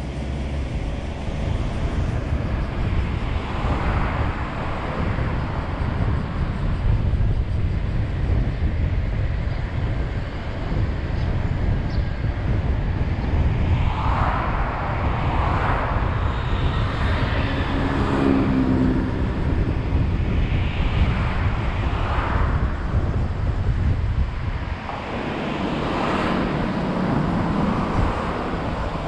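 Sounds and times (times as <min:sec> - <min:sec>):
vehicles passing: 0:00.0 - 0:07.8, 0:09.2 - 0:29.0
road and tyre rumble: 0:00.0 - 0:29.0.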